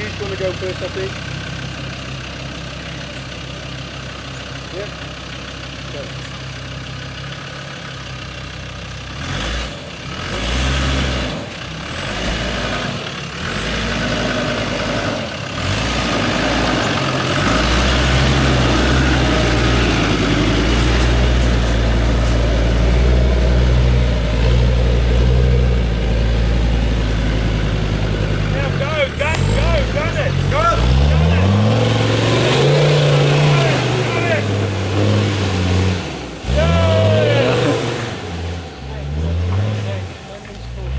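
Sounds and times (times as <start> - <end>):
off-road vehicle engine revving: 0.0 - 40.9.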